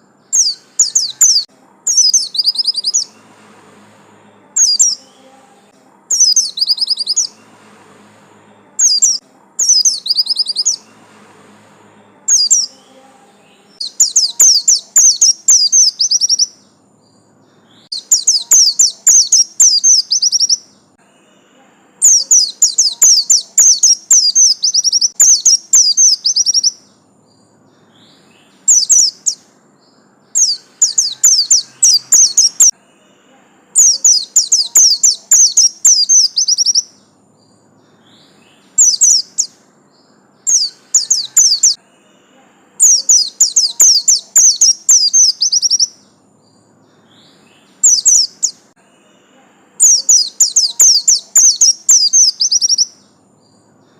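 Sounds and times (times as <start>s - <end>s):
bird singing rapid chattering trills: 0.0s - 3.2s, 4.6s - 5.3s, 6.1s - 7.5s, 8.8s - 11.0s, 12.3s - 13.0s, 13.7s - 21.0s, 22.0s - 32.7s, 33.8s - 41.8s, 42.8s - 48.7s, 49.8s - 53.9s.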